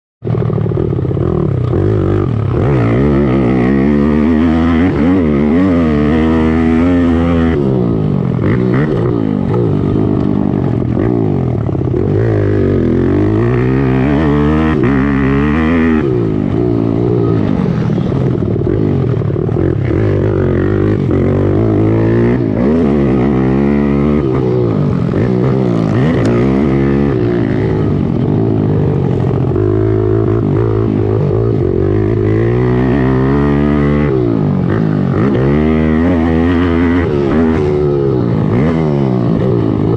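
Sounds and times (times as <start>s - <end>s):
pit bike engines revving: 0.2s - 39.9s.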